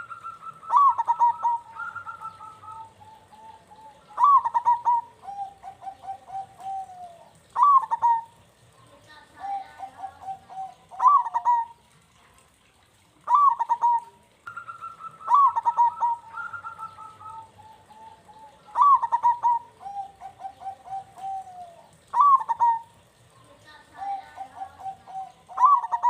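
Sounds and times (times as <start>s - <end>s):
doves cooing: 0.0s - 12.0s, 13.2s - 26.0s.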